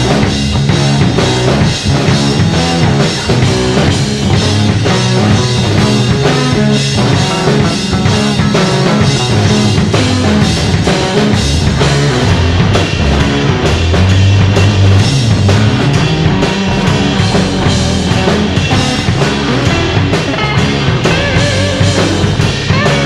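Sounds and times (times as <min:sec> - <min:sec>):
instrumental rock music: 0:00.0 - 0:23.0.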